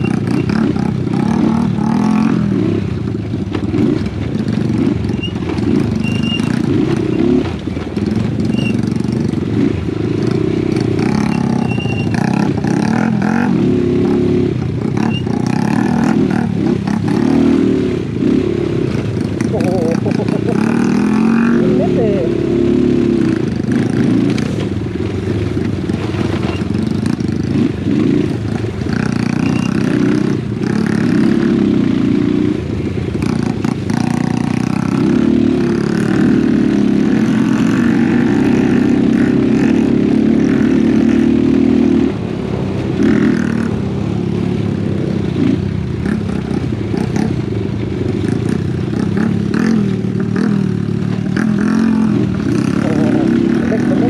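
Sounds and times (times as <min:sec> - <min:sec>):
motorcycle engine under load: 0:00.0 - 0:54.0.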